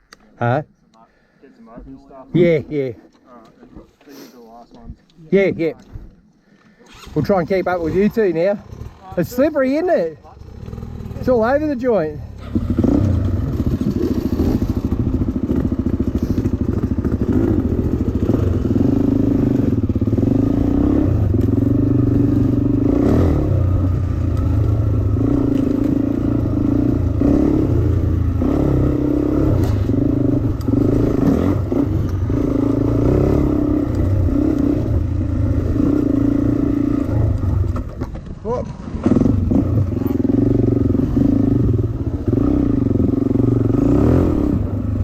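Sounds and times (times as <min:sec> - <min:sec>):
dirt bike engine revving: 0:06.9 - 0:38.0, 0:38.7 - 0:45.0.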